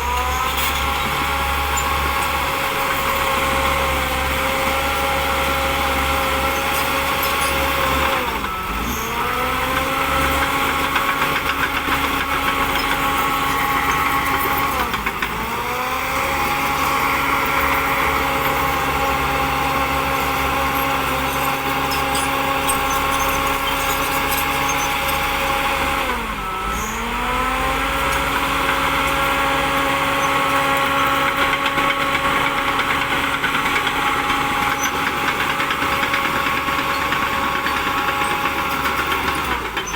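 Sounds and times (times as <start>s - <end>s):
diesel bulldozer engine running: 0.0s - 39.9s.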